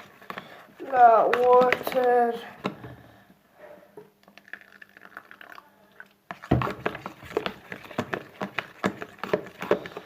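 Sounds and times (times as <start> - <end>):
spoon stirring squishy slime: 0.0 - 2.8, 4.2 - 10.0.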